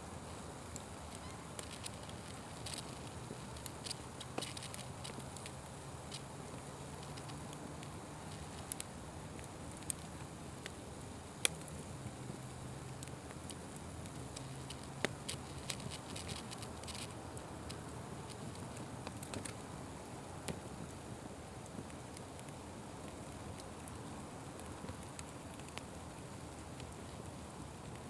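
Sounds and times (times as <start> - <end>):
wood fire crackling and popping: 0.1 - 28.0.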